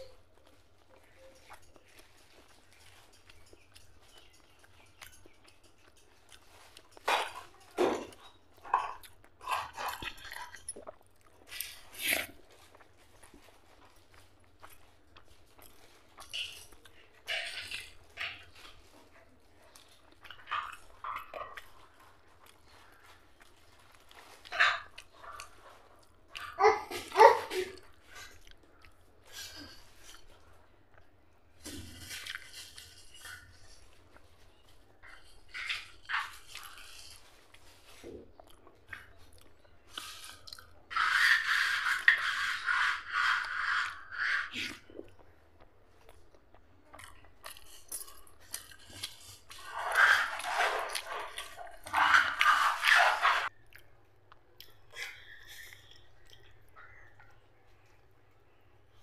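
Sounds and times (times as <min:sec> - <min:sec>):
wet chewing and lip smacking: 0:00.0 - 0:26.6, 0:27.7 - 0:42.2, 0:42.9 - 0:58.9.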